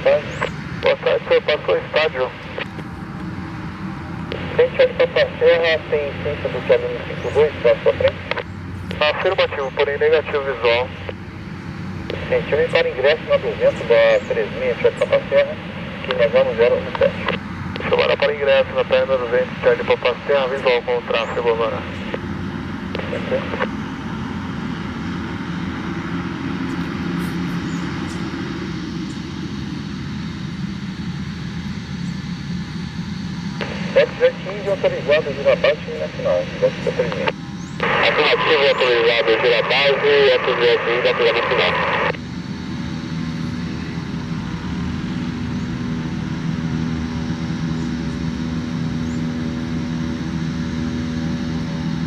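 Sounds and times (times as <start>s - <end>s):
turboprop engines running: 0.0s - 52.0s.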